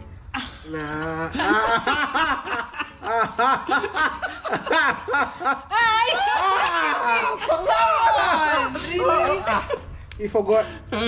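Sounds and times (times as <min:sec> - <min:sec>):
man and woman laughing: 0:00.4 - 0:09.9.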